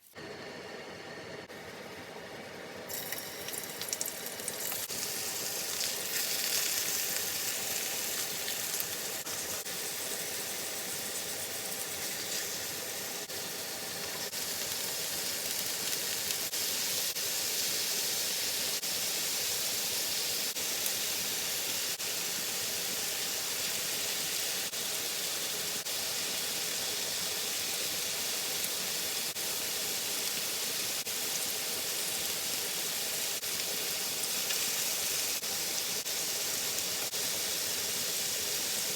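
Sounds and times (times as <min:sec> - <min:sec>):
chicken sizzling in a pan: 0:01.2 - 0:38.9.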